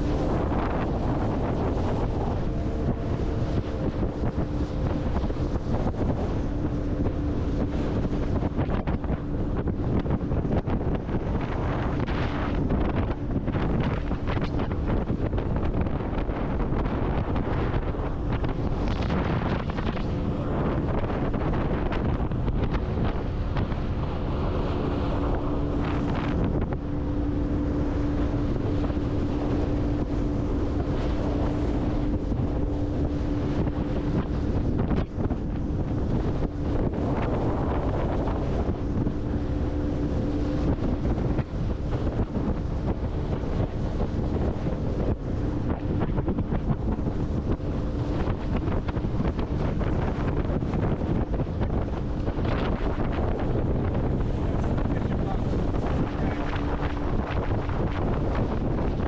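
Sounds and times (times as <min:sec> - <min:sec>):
faint boat motor hum: 0:00.0 - 0:59.0
wind buffeting microphone: 0:00.0 - 0:59.0.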